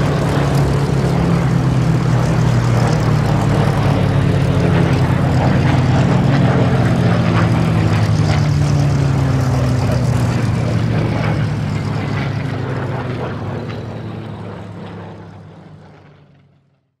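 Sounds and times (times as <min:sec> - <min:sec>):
propeller plane engine passing: 0:00.0 - 0:17.0.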